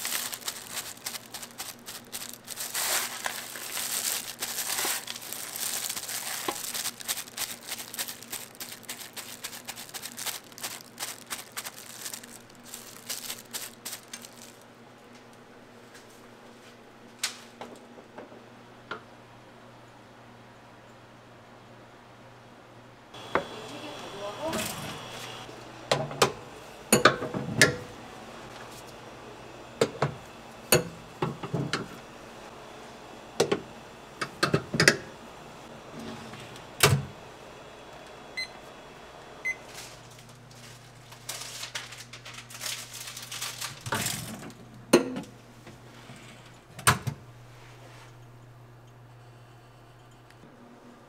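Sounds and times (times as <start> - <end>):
low appliance hum: 0.0 - 51.0.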